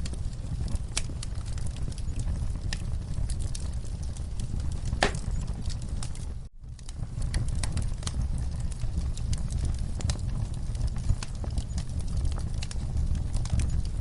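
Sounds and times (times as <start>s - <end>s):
fire crackling and popping: 0.0s - 14.0s
fire rumbling in fireplace: 0.0s - 14.0s.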